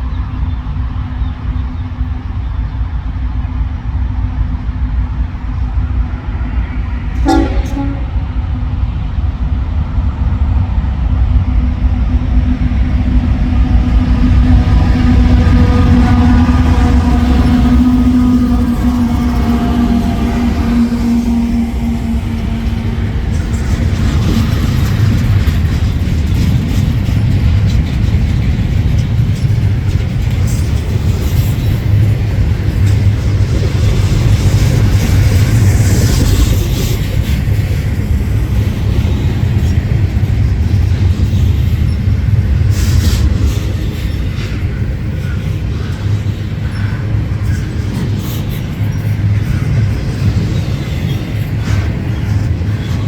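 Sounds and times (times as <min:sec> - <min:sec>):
freight train rumbling on track: 0:00.0 - 0:53.0.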